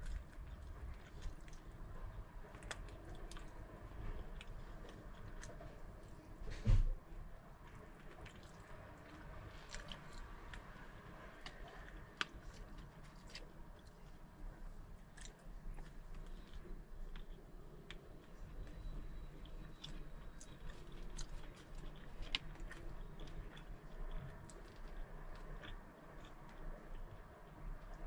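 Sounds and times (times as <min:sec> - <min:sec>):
chewing food: 0:00.0 - 0:06.4, 0:07.1 - 0:28.0.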